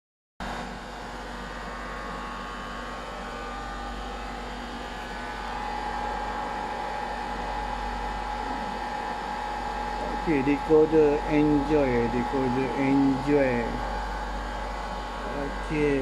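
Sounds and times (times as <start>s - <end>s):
hot-air blower and cooling fans: 0.4s - 16.0s
steady whine: 2.7s - 16.0s.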